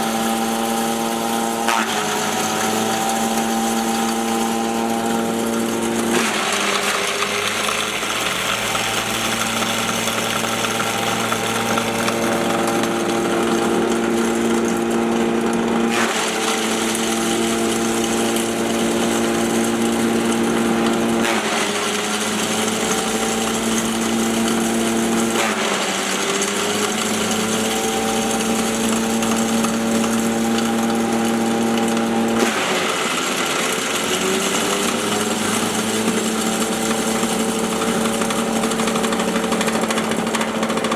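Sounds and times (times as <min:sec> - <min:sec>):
grinding mill running: 0:00.0 - 0:40.9.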